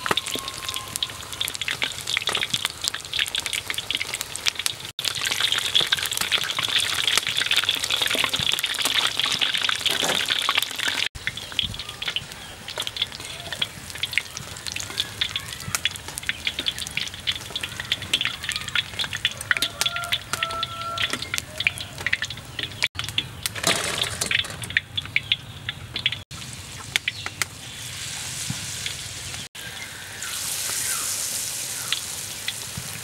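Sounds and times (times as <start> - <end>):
food deep-frying in hot oil: 0.0 - 33.0.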